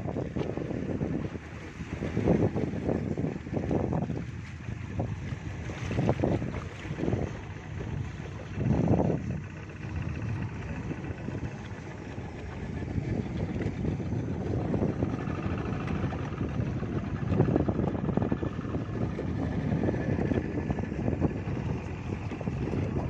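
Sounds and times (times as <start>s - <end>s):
choppy water: 0.0s - 23.0s
motorboat engine drone: 0.0s - 23.0s
wind: 0.0s - 23.0s.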